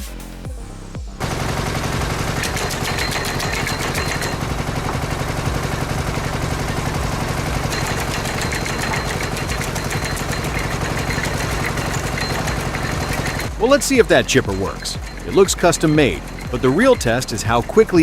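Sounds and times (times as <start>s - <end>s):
engine running with fast clatter: 1.2s - 18.0s.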